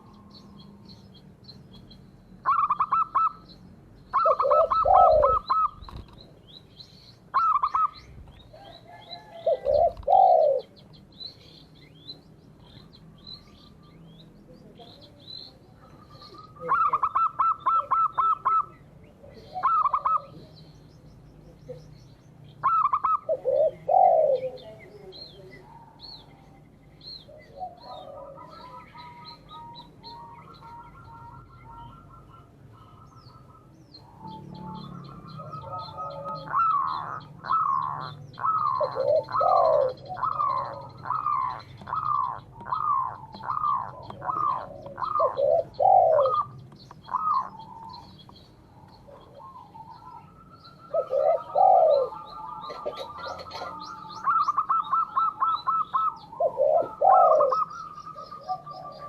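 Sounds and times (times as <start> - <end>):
birds chirping: 0.0 - 59.0
repeated falling bird calls: 0.0 - 59.0
dove cooing: 2.4 - 3.5, 4.1 - 6.4, 7.3 - 11.7, 14.7 - 20.7, 22.6 - 26.5, 27.2 - 59.0.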